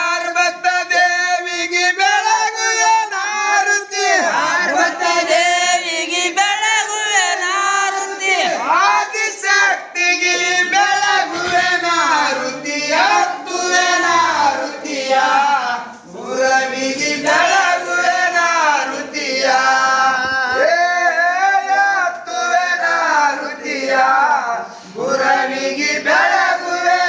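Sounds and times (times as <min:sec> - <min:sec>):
group singing devotional song: 0:00.0 - 0:27.0.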